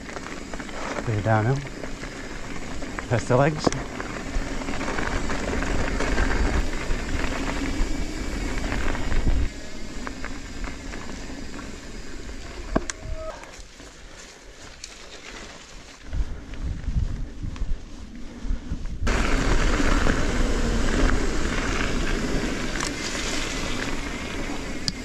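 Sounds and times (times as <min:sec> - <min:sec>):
bike tyres rolling on gravel: 0:00.0 - 0:25.0.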